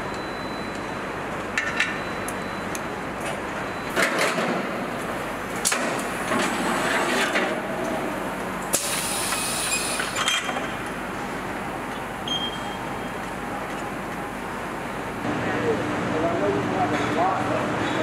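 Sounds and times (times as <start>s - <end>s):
steady machinery background: 0.0s - 18.0s.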